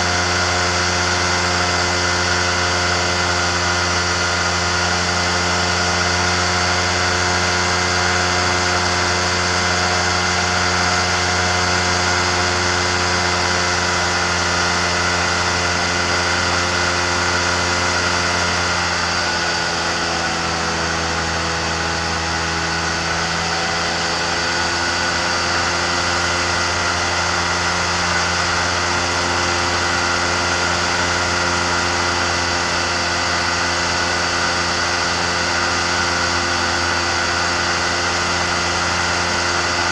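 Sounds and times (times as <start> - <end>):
microlight engine and propeller: 0.0 - 39.9.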